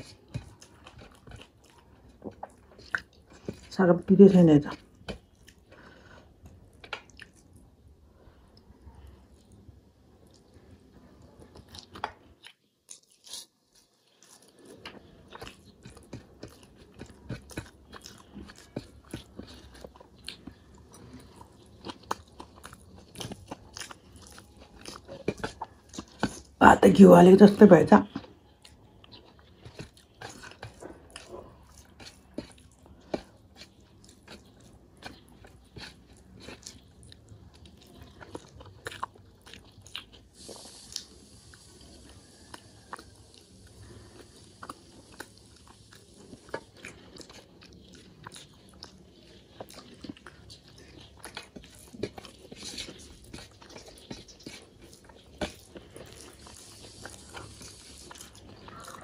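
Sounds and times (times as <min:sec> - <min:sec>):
person chewing food: 0:00.0 - 0:26.6, 0:27.4 - 0:59.0.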